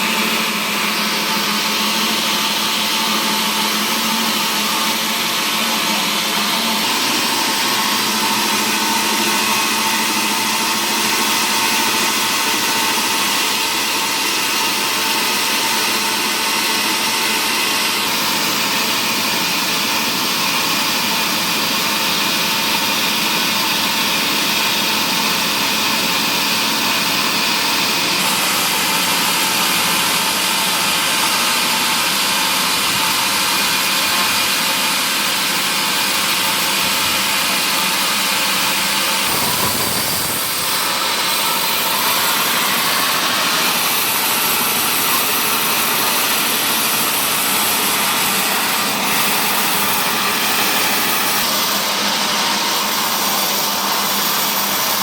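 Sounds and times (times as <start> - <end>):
woodworking machinery whirring: 0.0 - 55.0.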